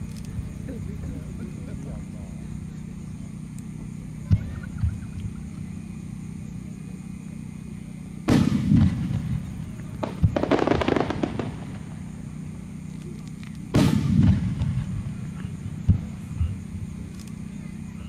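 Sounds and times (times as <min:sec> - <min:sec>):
fireworks booming: 0:00.0 - 0:06.2, 0:08.1 - 0:17.5
fireworks crackling: 0:00.0 - 0:18.0.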